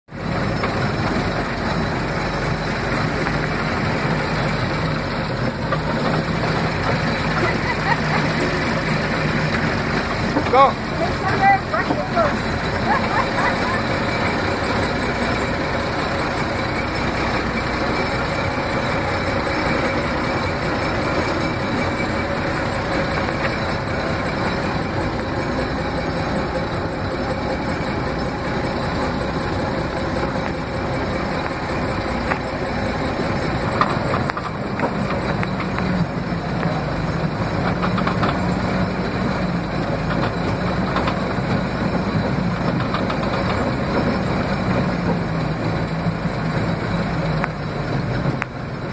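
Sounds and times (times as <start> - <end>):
tank engine running: 0.1 - 48.9.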